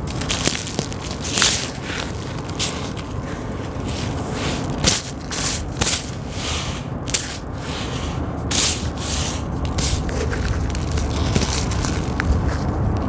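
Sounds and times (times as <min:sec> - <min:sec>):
gritty crunching of dry crust: 0:00.0 - 0:13.0.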